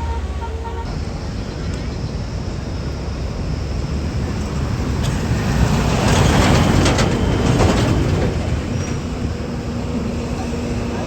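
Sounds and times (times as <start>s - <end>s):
bus engine rumble passing: 0.0s - 11.0s.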